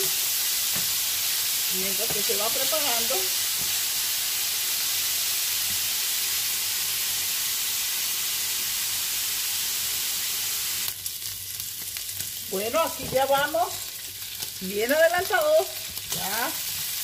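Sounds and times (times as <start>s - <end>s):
meat sizzling in frying pan: 0.0s - 17.0s.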